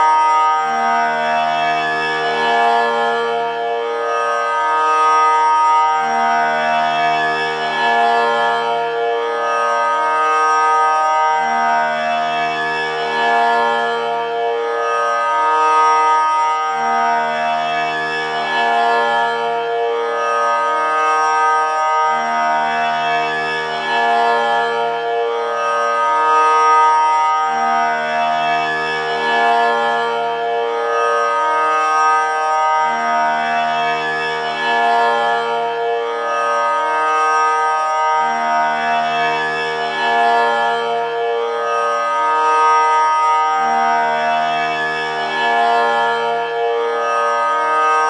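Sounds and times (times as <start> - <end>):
tanpura drone: 0.0 - 48.0.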